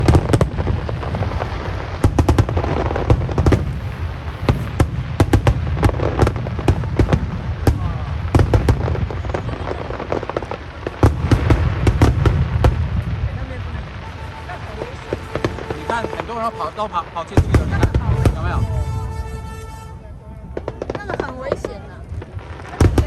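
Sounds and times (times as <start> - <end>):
fireworks cracks and bangs: 0.0 - 23.0.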